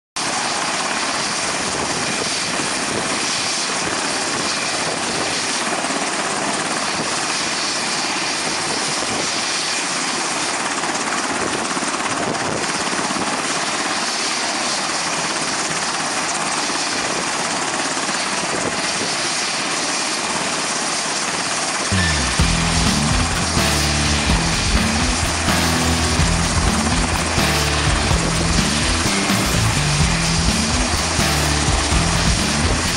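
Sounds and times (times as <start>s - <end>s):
model helicopter hovering: 0.2s - 32.9s.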